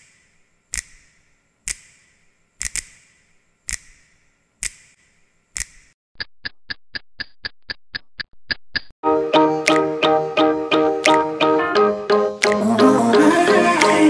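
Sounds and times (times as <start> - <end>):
film countdown clicks: 0.0 - 8.9, 9.6 - 11.5, 12.1 - 12.9, 13.7 - 14.0.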